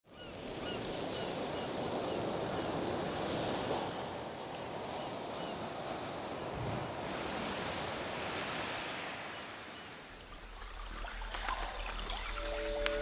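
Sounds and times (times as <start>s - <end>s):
ocean surf washing: 0.2s - 13.0s.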